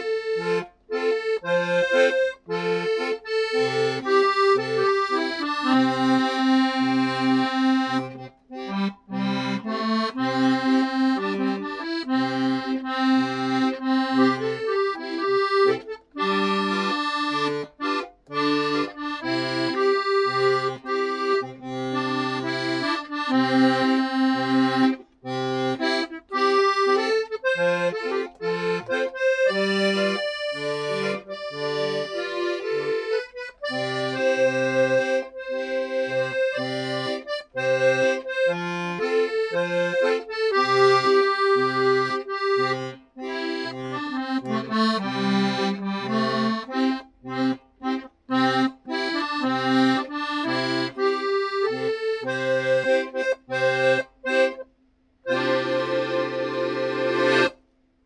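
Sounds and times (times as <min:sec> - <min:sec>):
accordion playing melody: 0:00.0 - 0:57.7.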